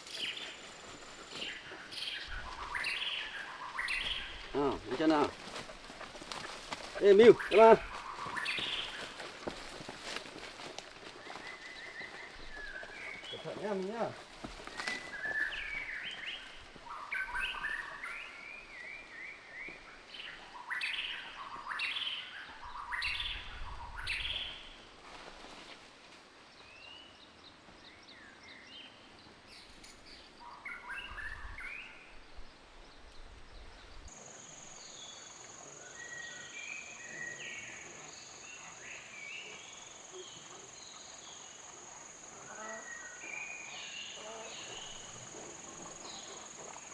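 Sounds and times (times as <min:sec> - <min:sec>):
birds chirping and trilling: 0:00.0 - 0:24.8, 0:27.9 - 0:46.9.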